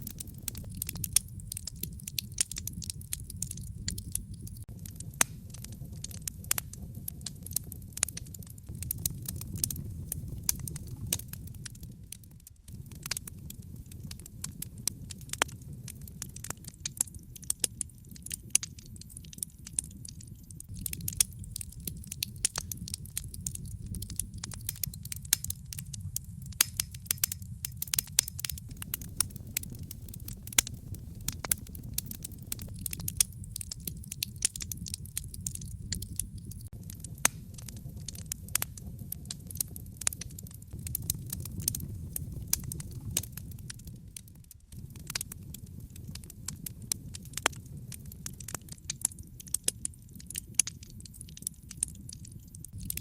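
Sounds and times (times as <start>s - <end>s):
fire popping and snapping: 0.0s - 53.0s
wood fire crackling: 0.0s - 53.0s.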